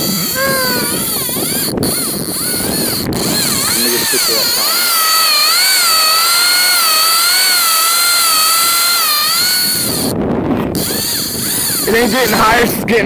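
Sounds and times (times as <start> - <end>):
fishing reel whining: 0.0 - 12.8
wind on microphone: 0.0 - 13.0.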